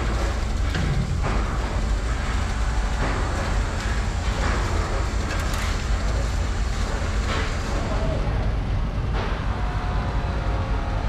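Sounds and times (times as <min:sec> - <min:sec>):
workshop machinery rumble: 0:00.0 - 0:11.0.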